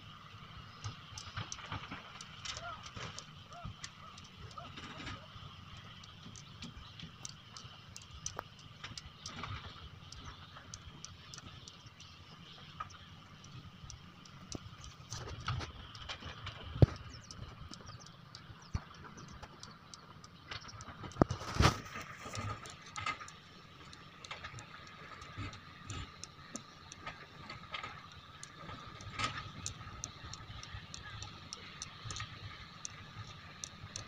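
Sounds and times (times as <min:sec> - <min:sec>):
excavator engine whining: 0:00.0 - 0:34.0.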